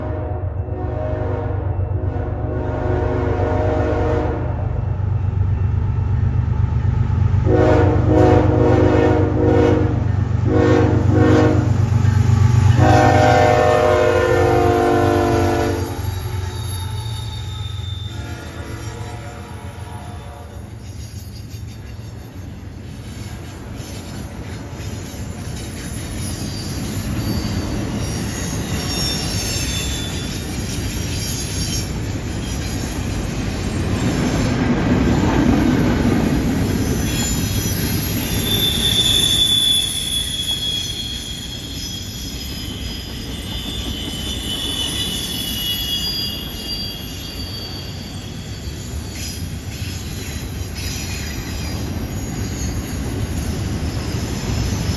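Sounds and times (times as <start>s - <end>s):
freight train rumbling: 0.0s - 54.9s
train wheel squeal: 9.8s - 54.9s.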